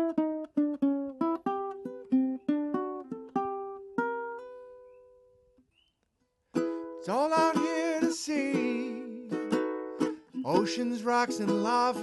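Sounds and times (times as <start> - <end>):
ukulele picking a melody: 0.0 - 5.1, 6.4 - 12.0.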